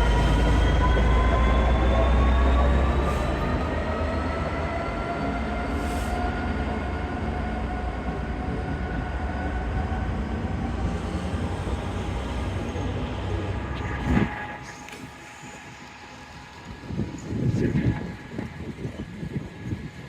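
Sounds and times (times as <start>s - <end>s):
train rumbling: 0.0s - 20.0s
train whining tones rising: 0.0s - 20.0s.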